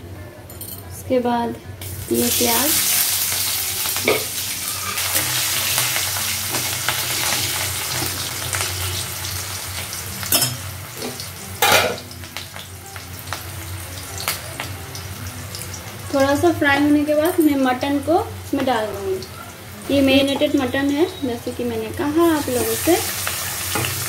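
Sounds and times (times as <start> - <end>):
onions sizzling in oil: 1.8 - 24.0.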